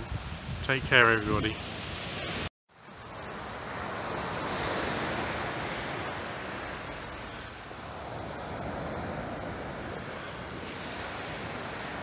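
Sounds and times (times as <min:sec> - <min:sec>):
surf breaking on shore: 0:00.0 - 0:12.0
wind on microphone: 0:00.0 - 0:12.0.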